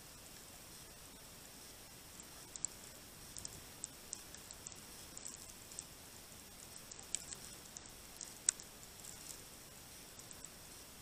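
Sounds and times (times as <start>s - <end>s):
birds pecking at seed: 1.7s - 11.0s.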